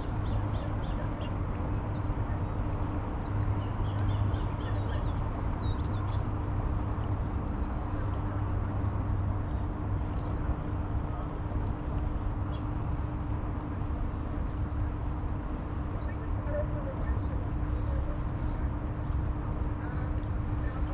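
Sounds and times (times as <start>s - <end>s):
constant low hum: 0.0s - 20.9s.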